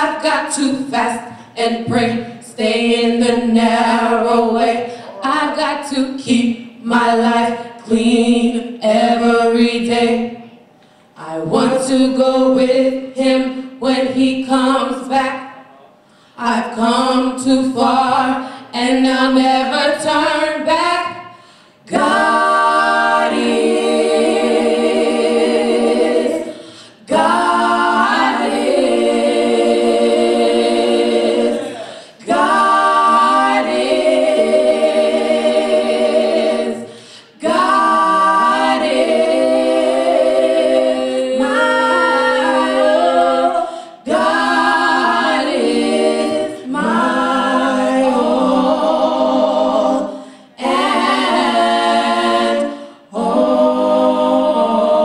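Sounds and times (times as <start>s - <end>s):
women singing a cappella harmony: 0.0s - 55.0s.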